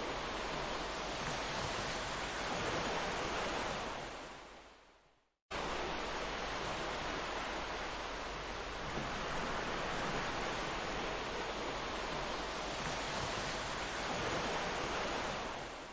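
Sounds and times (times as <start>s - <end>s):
surf washing on a beach: 0.0s - 4.7s, 5.5s - 15.9s.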